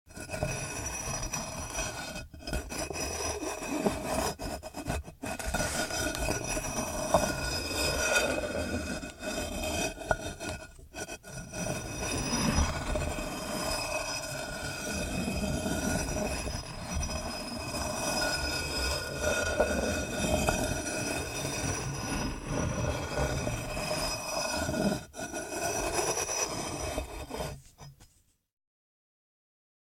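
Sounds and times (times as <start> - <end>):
stones grinding together: 0.2 - 27.9.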